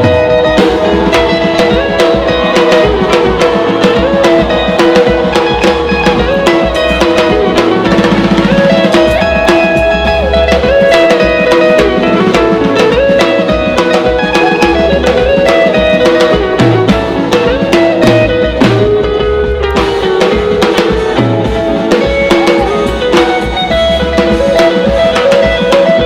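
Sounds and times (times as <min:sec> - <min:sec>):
instrumental gospel music: 0:00.0 - 0:26.0.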